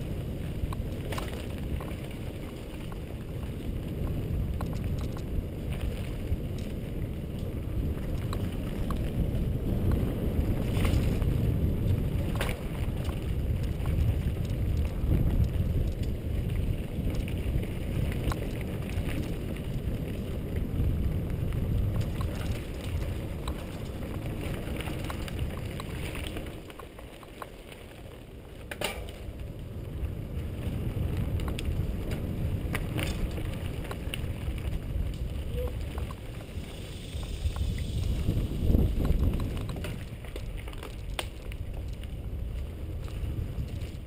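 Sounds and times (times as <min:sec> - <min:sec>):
bike clicks and rattles: 0:00.0 - 0:44.0
tyres rolling over dirt: 0:00.0 - 0:44.0
wind rumbling on microphone: 0:00.0 - 0:44.0.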